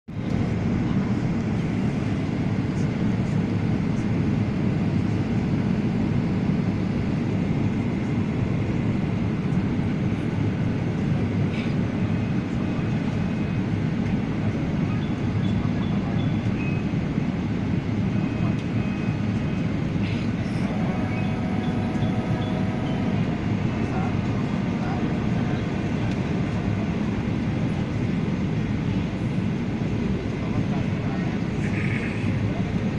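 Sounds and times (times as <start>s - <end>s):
airliner cabin rumble: 0.1s - 32.9s.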